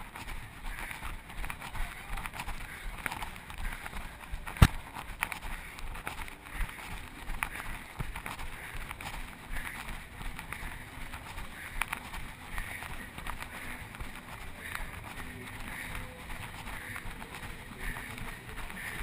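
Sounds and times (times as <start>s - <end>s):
running footfall thuds: 0.0s - 19.0s.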